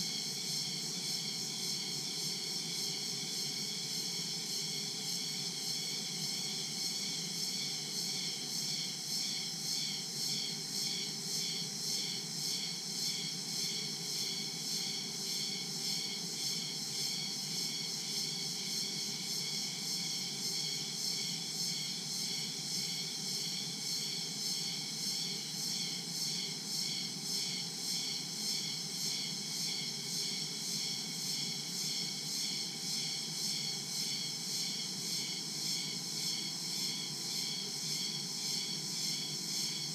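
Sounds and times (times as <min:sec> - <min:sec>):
crickets and insects chirping: 0:00.1 - 0:39.9.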